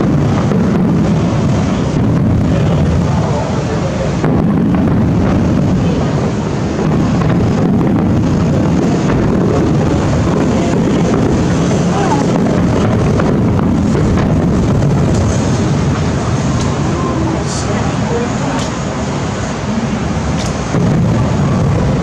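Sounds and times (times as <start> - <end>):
distant fireworks rumble: 0.0 - 22.0.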